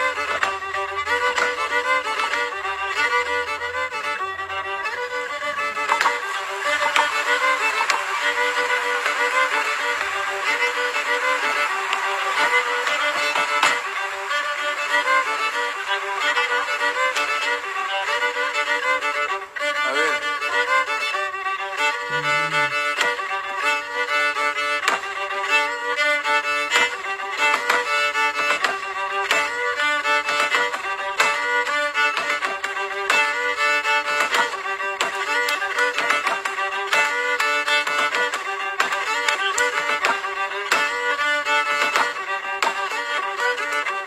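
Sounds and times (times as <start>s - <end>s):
rapid dance foot-taps: 0.0s - 19.8s, 20.5s - 44.0s
violin playing lively melody: 0.0s - 44.0s.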